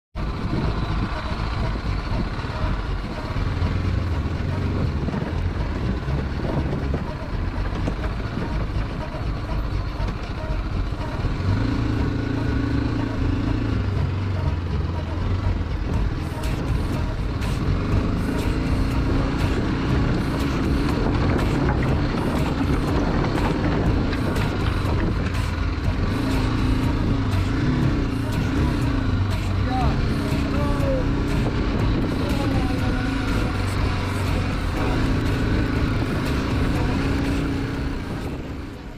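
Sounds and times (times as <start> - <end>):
motorcycle engine running: 0.2 - 38.9.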